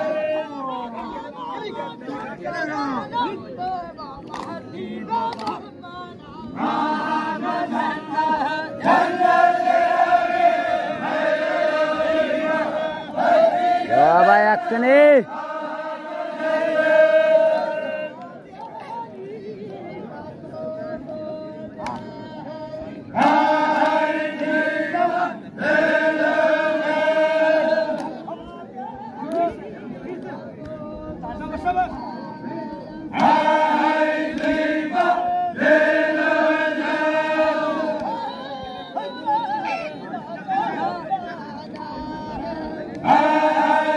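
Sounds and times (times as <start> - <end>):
group of voices chanting: 4.3 - 43.9.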